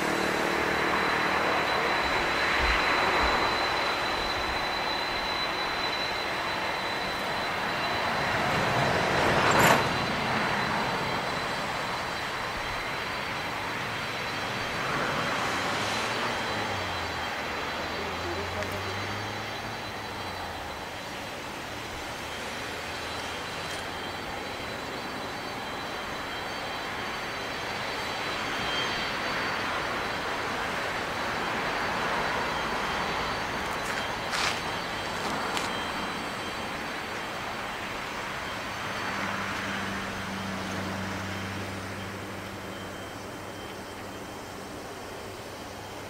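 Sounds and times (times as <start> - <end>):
jet engines rushing with high whine: 0.0 - 46.0.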